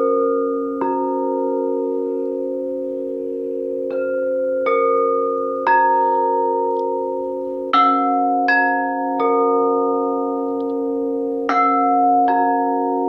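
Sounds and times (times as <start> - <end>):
low hum of bowl tones: 0.0 - 13.0
singing bowls ringing: 0.0 - 13.0.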